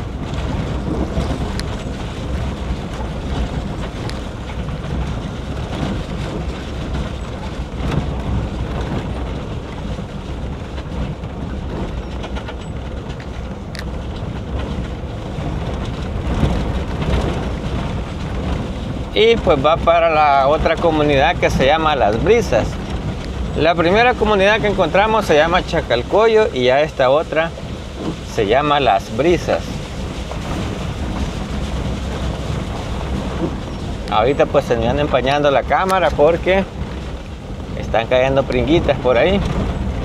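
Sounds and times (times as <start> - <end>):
vehicle engine and tyre rumble: 0.0 - 40.0.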